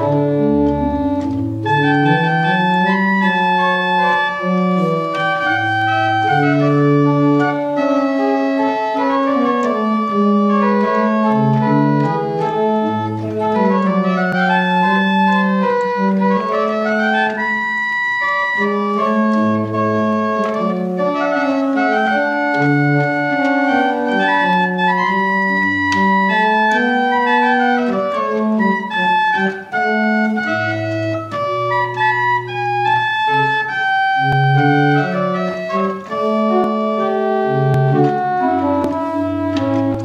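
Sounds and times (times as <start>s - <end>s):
pipe organ playing: 0.0s - 40.0s.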